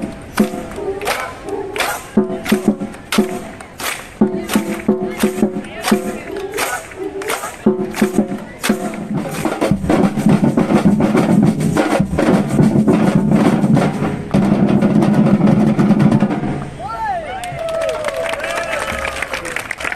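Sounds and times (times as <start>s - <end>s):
live band music with drums: 0.0s - 16.7s.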